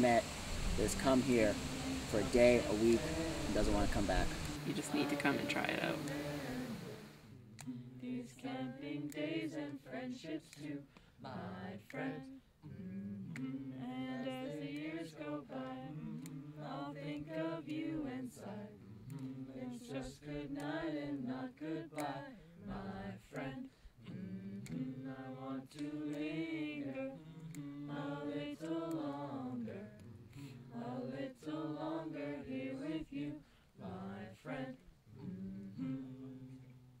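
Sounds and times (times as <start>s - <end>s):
group singing in harmony: 0.0s - 37.0s.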